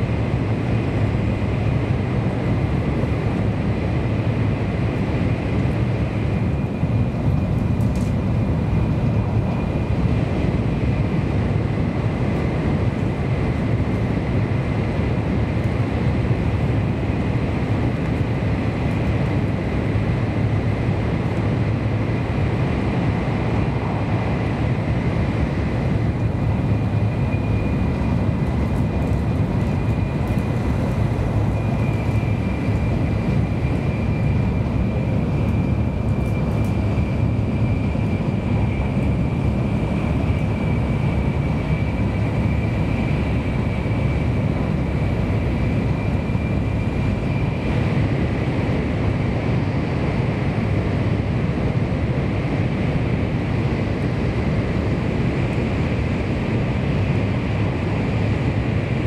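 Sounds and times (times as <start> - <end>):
deep train rumble: 0.0 - 59.0.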